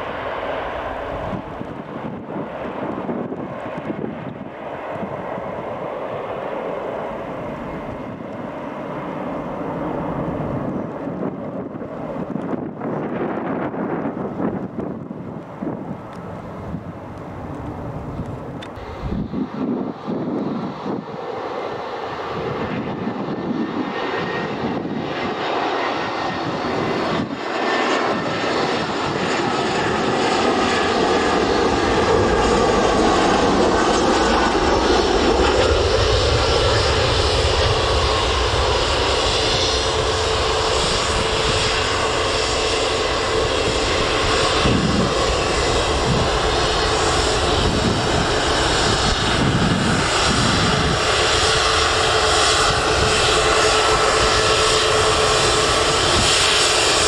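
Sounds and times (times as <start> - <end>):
faint engine whine: 0.0 - 57.0
jet engines of landing airliner: 0.0 - 57.0.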